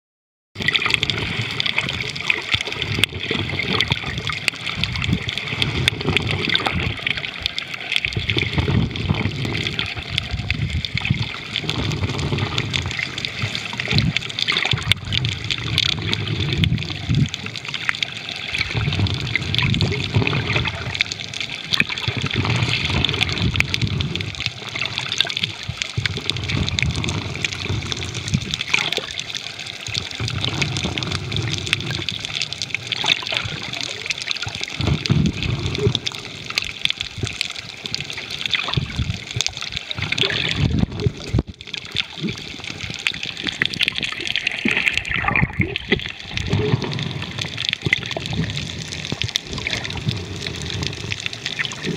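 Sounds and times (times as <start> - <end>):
water gurgling underwater: 0.6 - 51.9.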